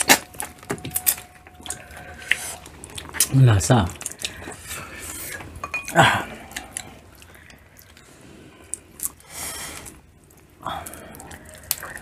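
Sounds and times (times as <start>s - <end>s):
chewing and wet squelching: 0.0s - 12.0s.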